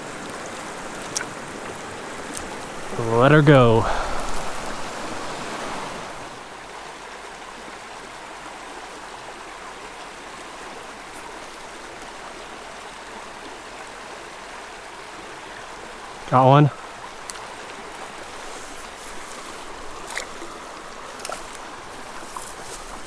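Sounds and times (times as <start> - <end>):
creek flowing over rocks: 0.0 - 23.0.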